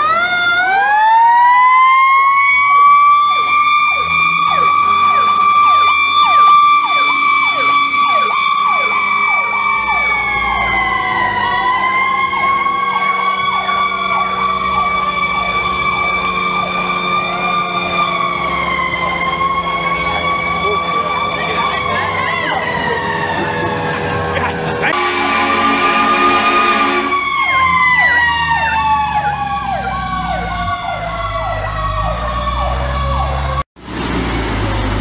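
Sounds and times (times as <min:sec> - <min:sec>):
mechanical siren wailing: 0:00.0 - 0:33.6
siren rapid falling sweeps: 0:00.0 - 0:33.6.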